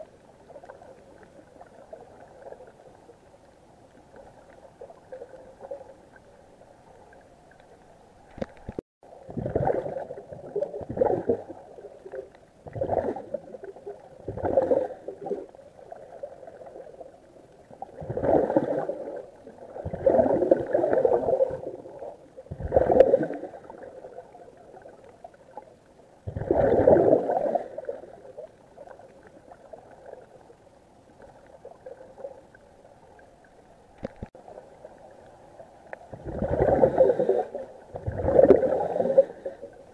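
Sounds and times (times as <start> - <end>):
gurgling exhaled bubbles underwater: 0.0 - 3.2, 3.9 - 7.6, 8.3 - 33.4, 34.0 - 39.9.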